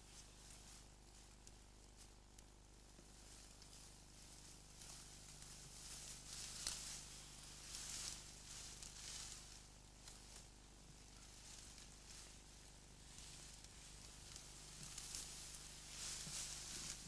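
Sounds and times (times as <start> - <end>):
faint rustling: 0.0 - 17.0
steady low hum: 0.0 - 17.0.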